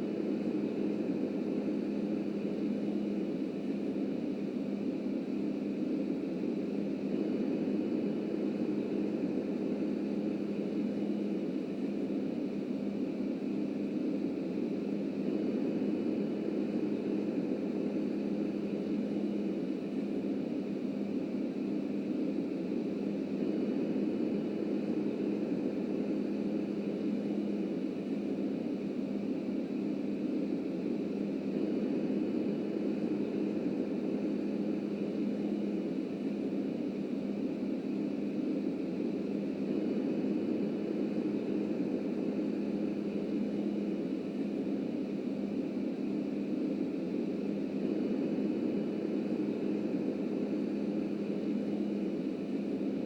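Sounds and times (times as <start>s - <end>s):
faint constant hum: 0.0s - 53.0s.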